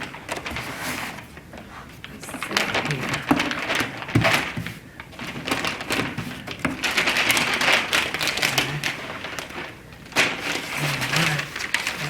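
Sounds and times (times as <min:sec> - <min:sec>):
contact paper crackling and rustling: 0:00.0 - 0:12.0.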